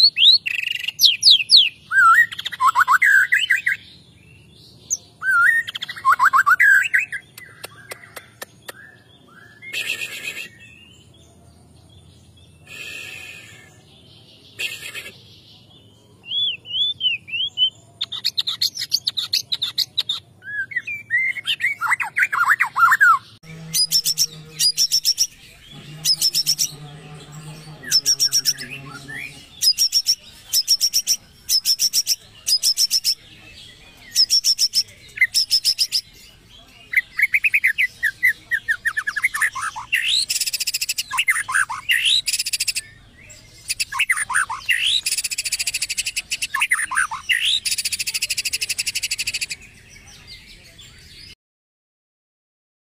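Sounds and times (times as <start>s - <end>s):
songbird singing varied song: 0.0s - 51.4s.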